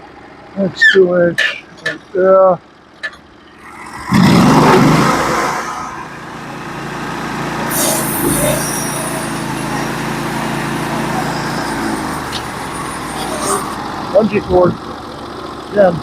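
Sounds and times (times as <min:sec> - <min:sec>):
gas engine starting and running: 0:00.0 - 0:16.0.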